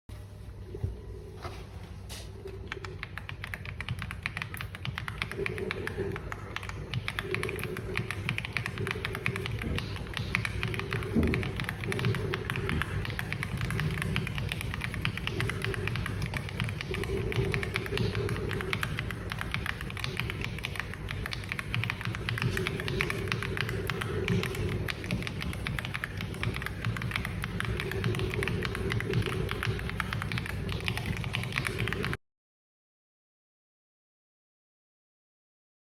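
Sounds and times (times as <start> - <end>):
fast typing on mechanical keyboard: 2.6 - 32.2.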